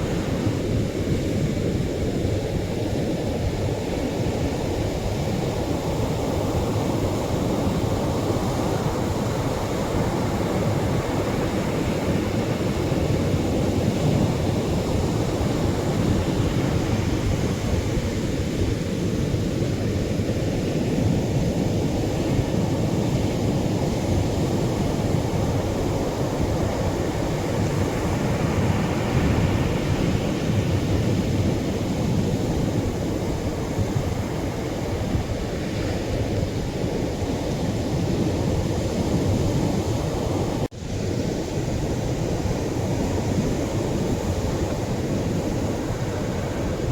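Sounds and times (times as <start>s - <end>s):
waves breaking on shore: 0.0s - 46.9s.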